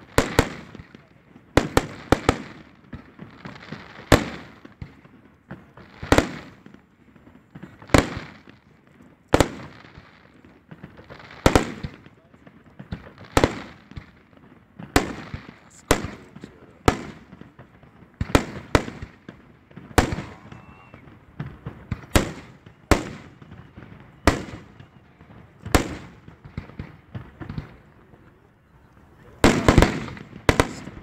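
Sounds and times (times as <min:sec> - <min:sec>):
fireworks bursting with echo: 0:00.0 - 0:31.0.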